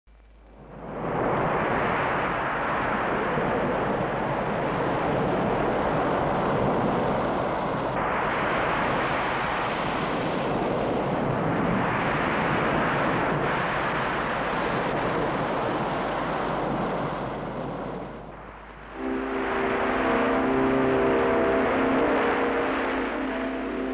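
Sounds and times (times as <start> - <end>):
heavy surf breaking: 1.0 - 23.9.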